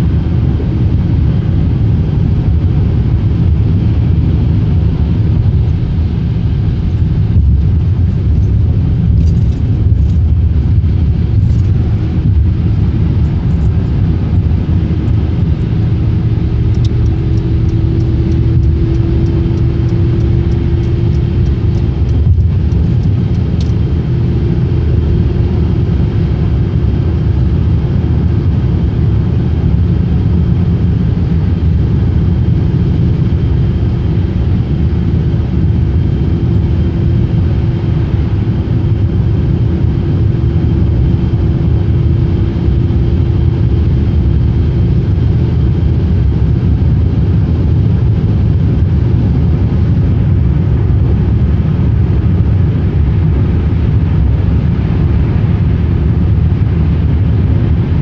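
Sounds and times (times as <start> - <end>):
car road noise rumble: 0.0 - 58.0.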